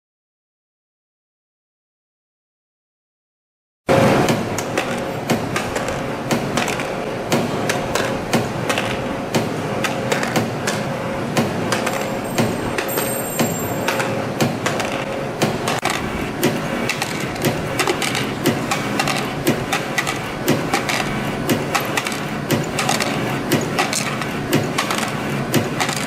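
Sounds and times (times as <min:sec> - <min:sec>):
spring coiling machine running: 0:03.9 - 0:26.0.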